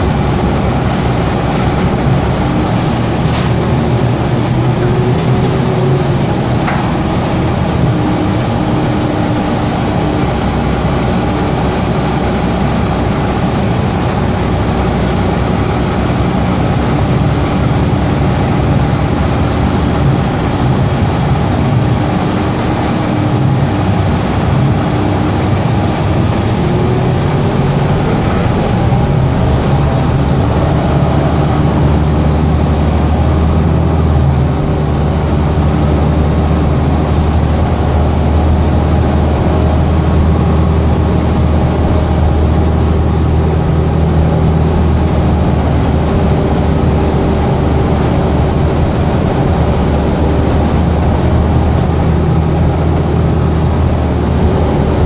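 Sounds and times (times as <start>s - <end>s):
air conditioning running: 0.0s - 55.0s
bus cabin hum and road rumble: 0.0s - 55.0s.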